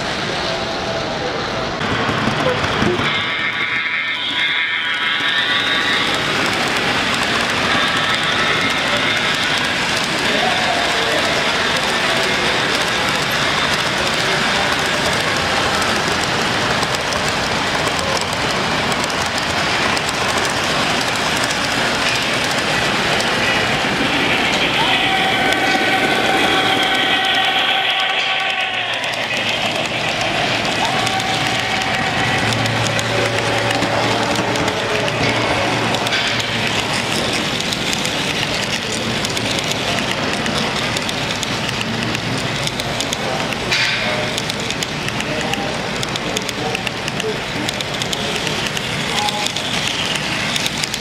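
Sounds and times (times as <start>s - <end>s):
model train wheels rumbling on rail: 0.0s - 51.0s.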